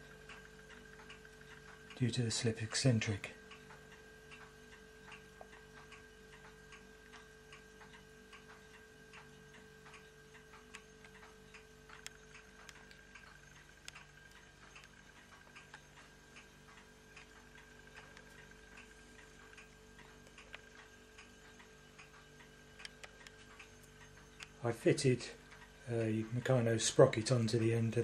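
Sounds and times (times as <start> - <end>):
faint steady hum: 0.0 - 28.0
rapid regular ticking: 0.0 - 28.0.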